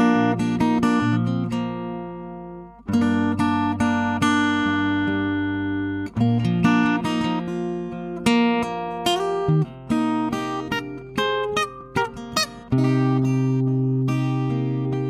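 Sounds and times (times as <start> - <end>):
acoustic guitar picked chords: 0.0 - 15.0.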